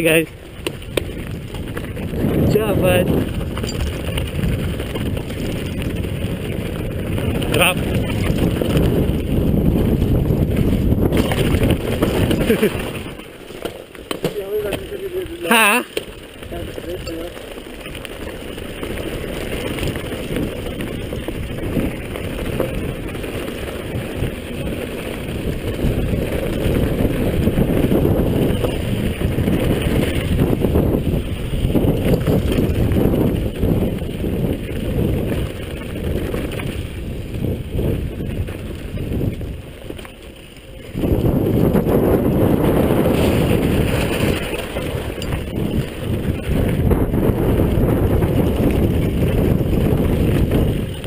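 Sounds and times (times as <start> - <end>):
wind buffeting microphone: 0.0 - 13.4, 14.2 - 51.0
bike frame rattling: 0.0 - 51.0
bike tyres rumbling on dirt: 0.0 - 51.0.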